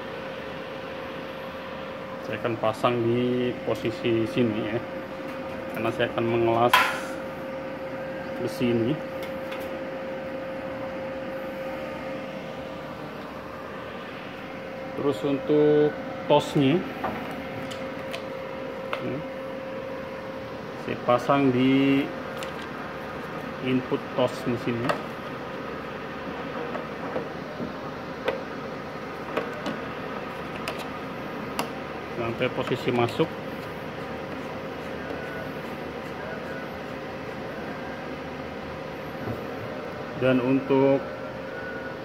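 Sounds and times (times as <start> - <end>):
cooling fan whirring and whining: 0.0 - 42.0
steady background hum: 0.0 - 42.0.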